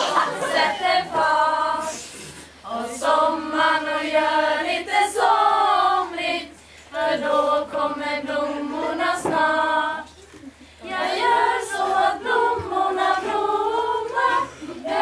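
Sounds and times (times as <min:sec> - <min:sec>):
girls singing unaccompanied: 0:00.0 - 0:15.0.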